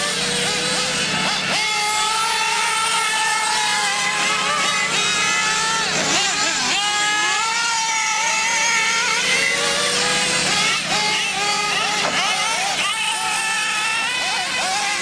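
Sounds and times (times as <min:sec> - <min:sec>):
small glow engines buzzing: 0:00.0 - 0:15.0.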